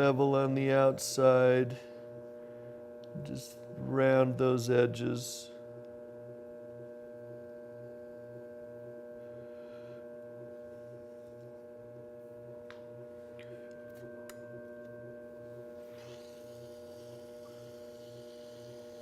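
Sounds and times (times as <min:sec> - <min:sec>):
potter's wheel humming: 0:00.0 - 0:19.0.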